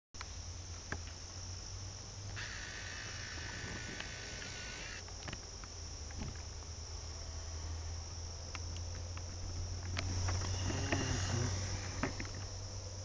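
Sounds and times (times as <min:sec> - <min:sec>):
crickets chirring: 0:00.2 - 0:13.0
low steady buzzing tone: 0:00.2 - 0:13.0.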